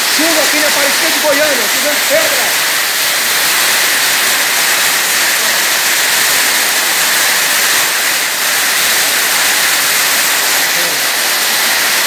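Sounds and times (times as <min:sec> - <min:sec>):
heavy rain on concrete and metal: 0:00.0 - 0:12.0.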